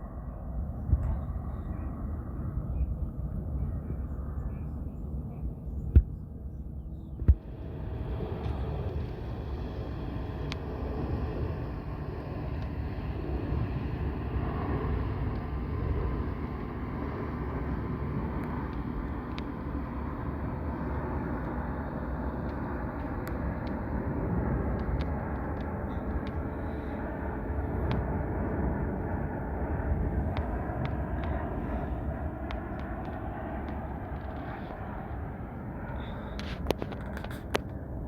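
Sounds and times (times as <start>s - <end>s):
jet airliner flying past: 0.0s - 38.0s
turbofan engine whine: 0.0s - 38.0s.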